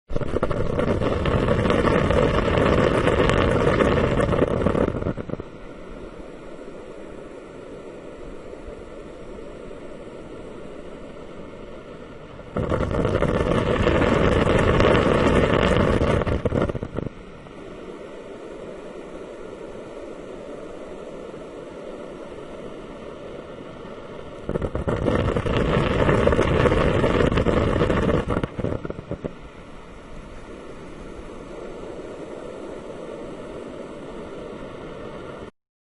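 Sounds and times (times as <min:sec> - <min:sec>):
humidifier water bubbling: 0:00.1 - 0:35.5.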